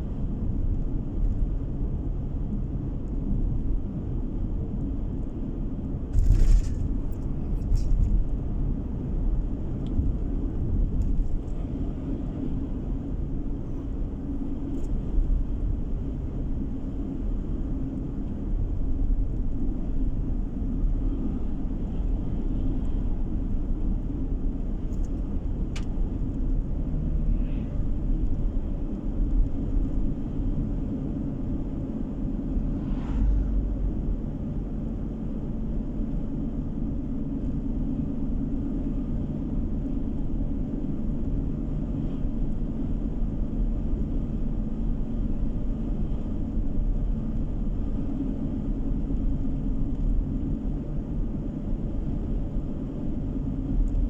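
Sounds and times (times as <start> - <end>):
car driving road rumble: 0.0 - 54.0.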